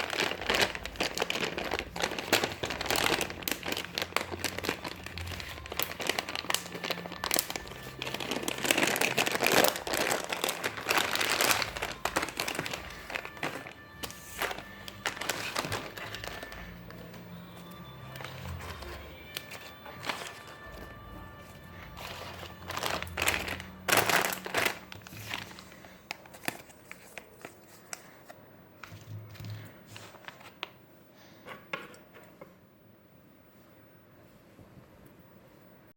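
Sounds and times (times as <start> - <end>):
plastic packaging crinkling: 0.0 - 30.8.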